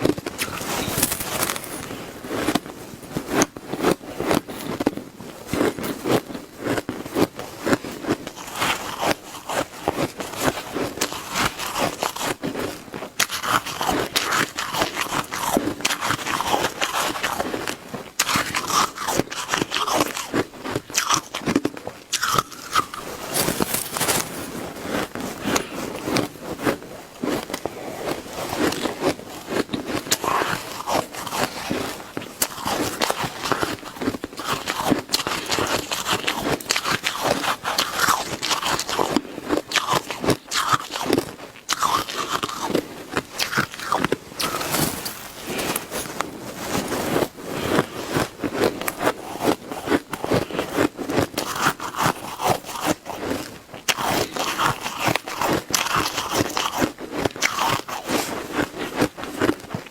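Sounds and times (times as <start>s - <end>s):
crunching and chewing shaved ice: 0.0s - 59.9s.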